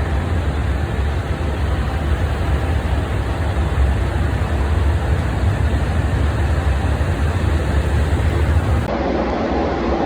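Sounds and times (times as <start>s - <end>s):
train rumbling: 0.0s - 9.0s
even rushing noise: 0.0s - 9.2s.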